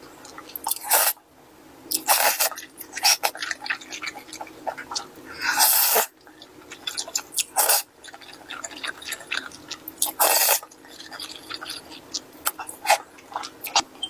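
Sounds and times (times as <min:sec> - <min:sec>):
wet chewing clicks: 0:00.2 - 0:01.2, 0:01.9 - 0:14.0.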